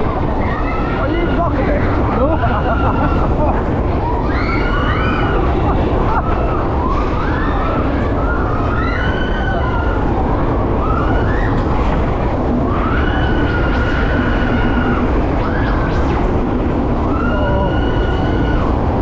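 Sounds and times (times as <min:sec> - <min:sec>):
fairground ride noise: 0:00.0 - 0:19.0
high wailing tones: 0:00.1 - 0:19.0.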